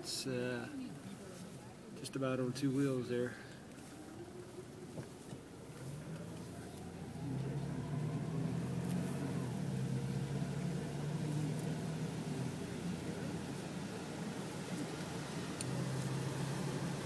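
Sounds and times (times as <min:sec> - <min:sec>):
vehicle engine running: 0:03.1 - 0:17.0.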